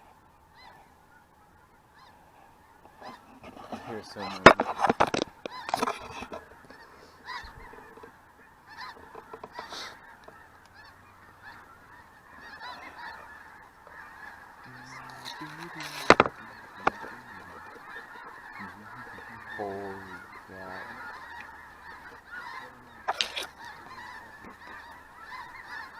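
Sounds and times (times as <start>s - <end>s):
geese honking overhead: 0.0s - 25.9s.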